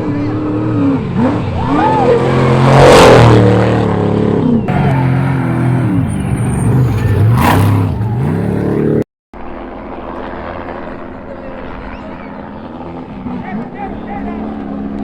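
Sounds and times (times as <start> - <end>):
race truck engines revving: 0.0 - 9.1, 9.8 - 15.0
trucks rushing past: 0.0 - 15.0.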